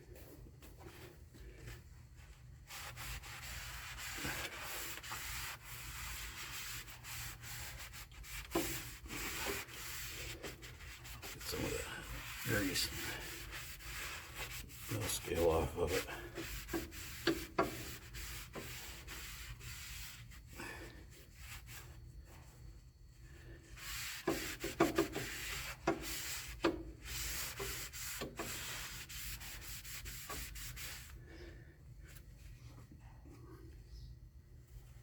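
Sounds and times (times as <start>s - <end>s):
hand scrubbing steel plate: 2.2s - 22.6s, 23.2s - 31.4s.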